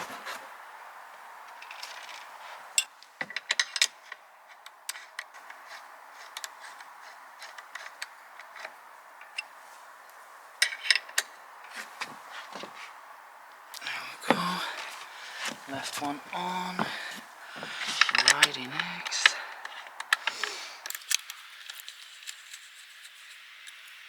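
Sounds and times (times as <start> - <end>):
light metallic clicks of tool and pedal: 1.5 - 12.9, 13.8 - 23.8.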